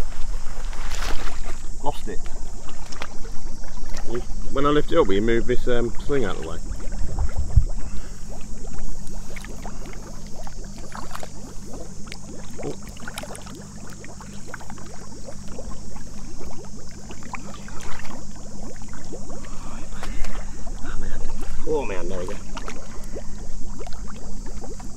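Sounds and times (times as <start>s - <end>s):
steady high hiss: 0.0s - 24.9s
water sloshing and splashing: 0.0s - 24.9s.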